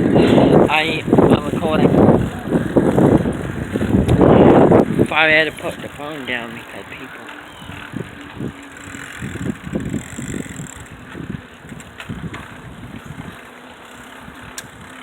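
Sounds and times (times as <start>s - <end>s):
bicycle riding noise: 0.0s - 15.0s
wind buffeting microphone: 0.0s - 15.0s.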